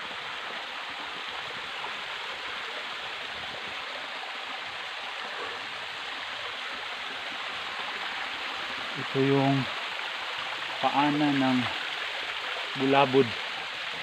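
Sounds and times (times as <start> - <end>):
water rushing in stream: 0.0 - 14.0.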